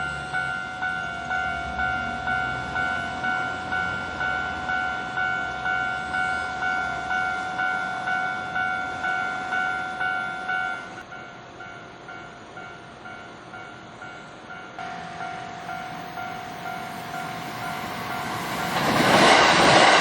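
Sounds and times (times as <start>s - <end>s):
level crossing warning bell ringing: 0.0s - 20.0s
train rumbling past: 0.0s - 20.0s.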